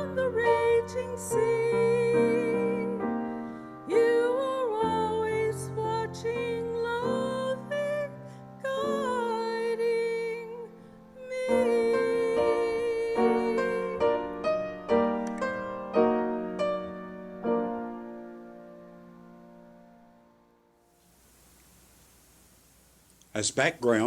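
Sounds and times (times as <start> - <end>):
piano chords: 0.0 - 20.8.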